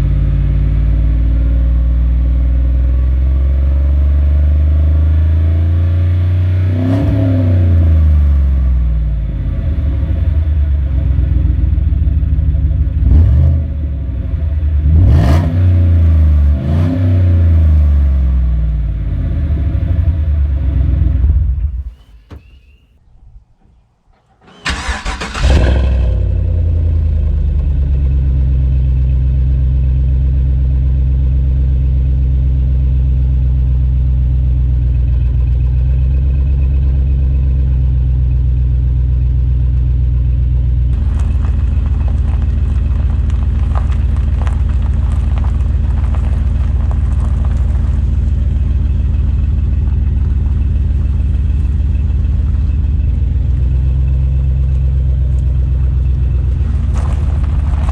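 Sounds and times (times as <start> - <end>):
car engine starting and idling: 0.0 - 57.9.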